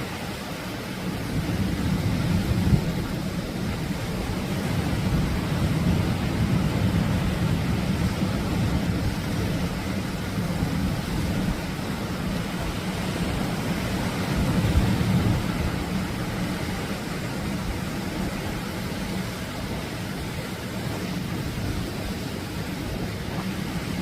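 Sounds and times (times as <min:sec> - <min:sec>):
surf breaking on a beach: 0:00.0 - 0:24.0.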